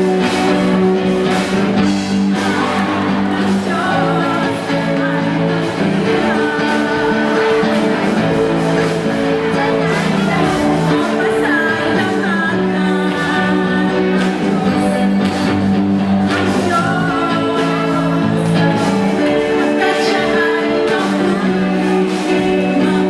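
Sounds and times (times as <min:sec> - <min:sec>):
drums: 0:00.0 - 0:23.0
held chords: 0:00.0 - 0:23.0
person singing: 0:00.0 - 0:23.0.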